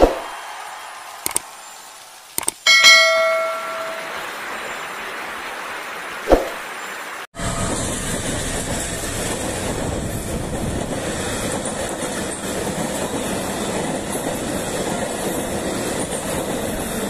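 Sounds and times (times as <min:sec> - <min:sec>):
train coaches rolling on rails: 0:02.2 - 0:17.0.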